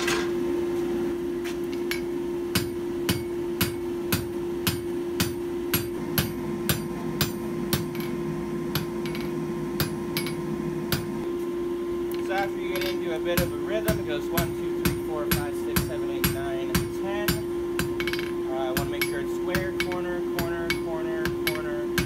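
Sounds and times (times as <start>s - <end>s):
hammer striking steel on anvil: 1.6s - 11.4s, 12.1s - 22.0s.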